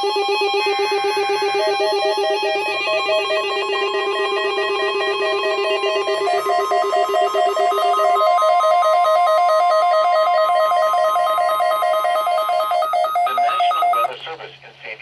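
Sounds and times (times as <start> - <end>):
steady high tone: 0.2 - 14.1
plucked notes repeating fast: 0.6 - 14.1.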